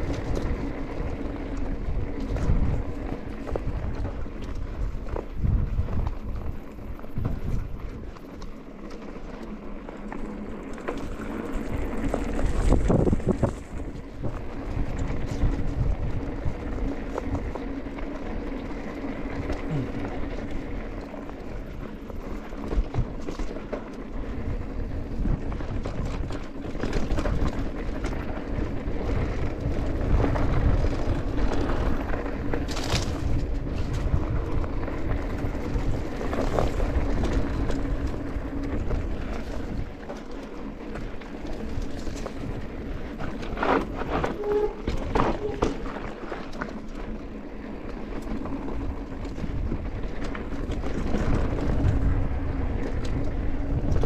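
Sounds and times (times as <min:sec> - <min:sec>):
bike rattles and clicks: 0:00.0 - 0:54.0
wind and tyres rumbling on dirt: 0:00.0 - 0:54.0.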